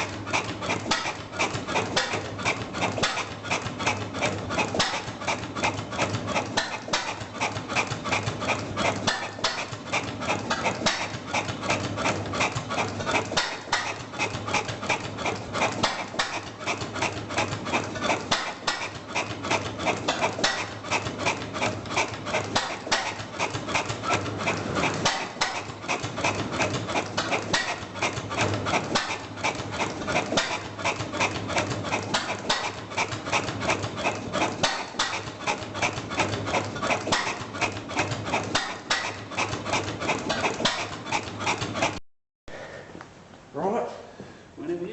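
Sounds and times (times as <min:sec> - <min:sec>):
stationary engine knocking: 0:00.0 - 0:42.0.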